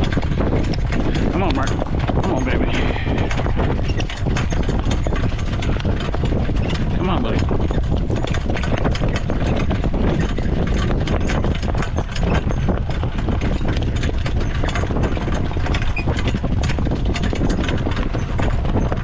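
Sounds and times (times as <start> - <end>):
horse hoofbeats at speed: 0.0 - 19.0
steady low rumble: 0.0 - 19.0.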